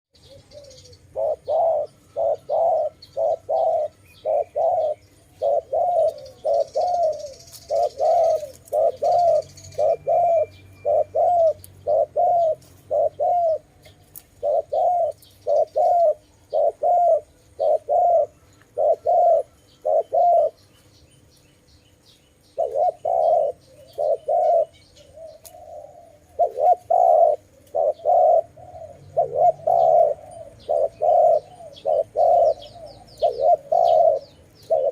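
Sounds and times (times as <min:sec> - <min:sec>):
dove cooing: 0:00.2 - 0:20.8, 0:22.5 - 0:34.9.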